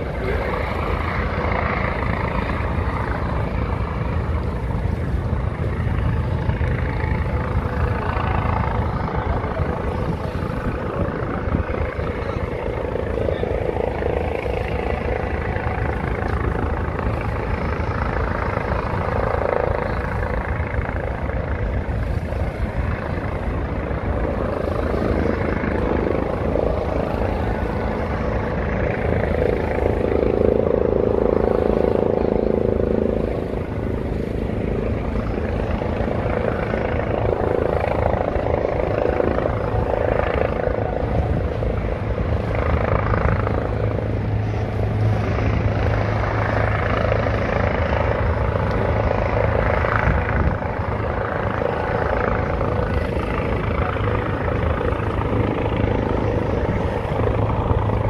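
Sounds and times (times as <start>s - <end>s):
distant helicopter: 0.0s - 58.0s.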